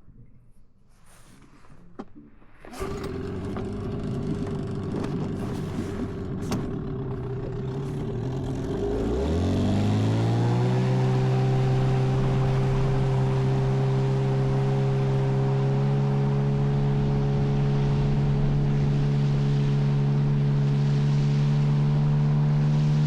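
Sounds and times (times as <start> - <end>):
outboard motor running: 2.4 - 23.0.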